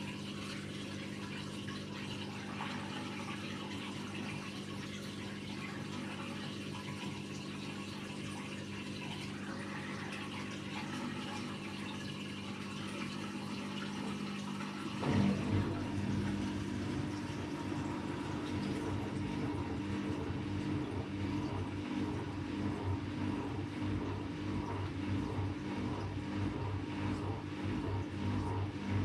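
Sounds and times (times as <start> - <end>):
washing machine hum: 0.0 - 29.0
water flowing through machine: 0.0 - 29.0.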